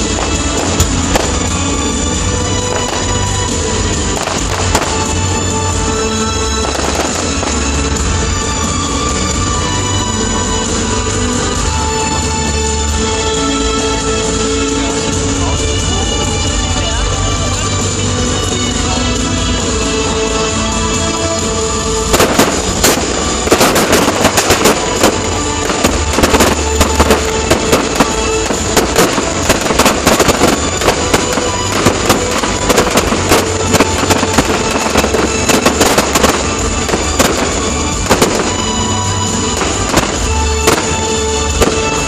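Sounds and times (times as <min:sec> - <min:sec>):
background music: 0:00.0 - 0:42.0
fireworks bangs and crackles: 0:00.0 - 0:42.0.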